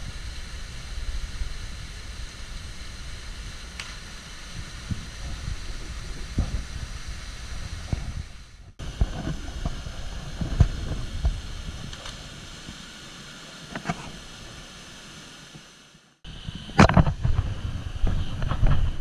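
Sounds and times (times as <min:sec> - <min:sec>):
wind buffeting microphone: 0:00.0 - 0:13.0, 0:16.3 - 0:19.0
small waterfall rushing into pool: 0:00.0 - 0:19.0.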